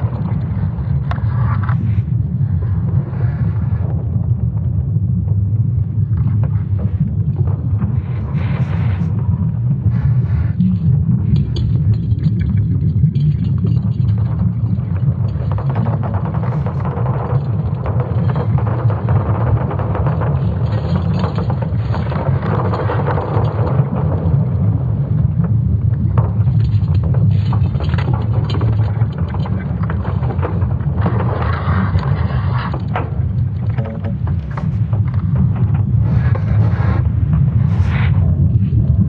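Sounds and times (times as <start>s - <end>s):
hissing crackling noise: 0.0s - 12.8s, 14.3s - 39.0s
deep rumble: 0.0s - 39.0s.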